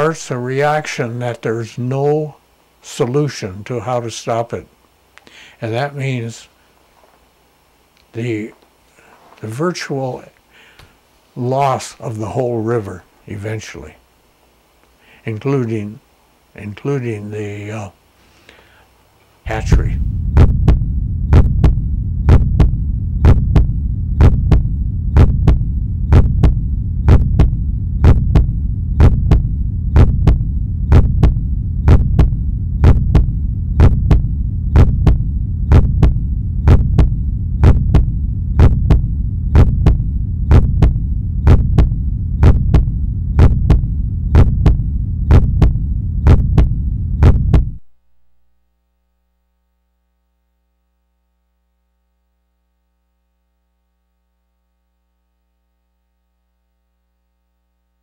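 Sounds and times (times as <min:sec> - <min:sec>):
loud electrical hum: 0:00.0 - 0:58.0.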